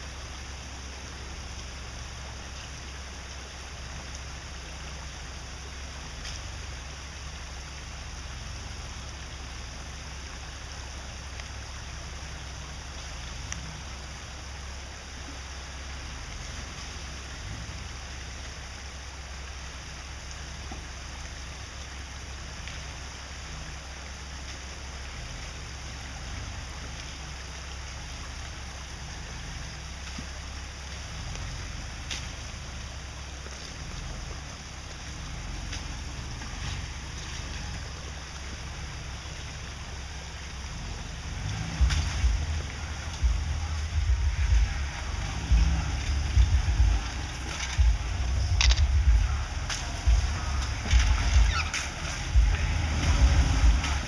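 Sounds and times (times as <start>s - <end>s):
distant engine rumbling: 0.0s - 54.0s.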